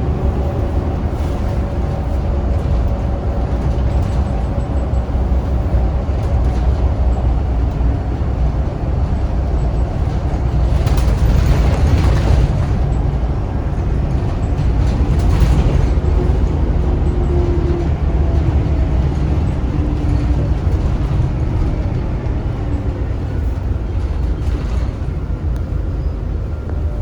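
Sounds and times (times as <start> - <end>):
diesel bus engine rumbling: 0.0 - 27.0.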